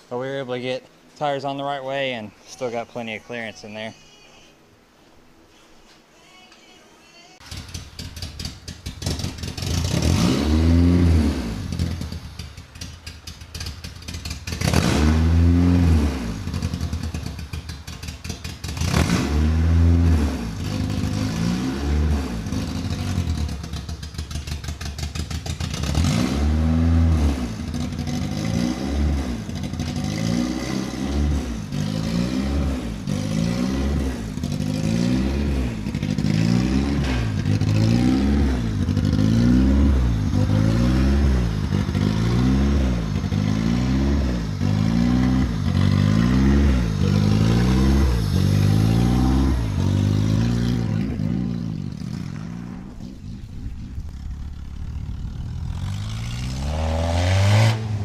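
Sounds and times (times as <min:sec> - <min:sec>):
car engine revving: 0:07.4 - 0:12.5, 0:13.5 - 0:18.0, 0:18.6 - 0:58.0.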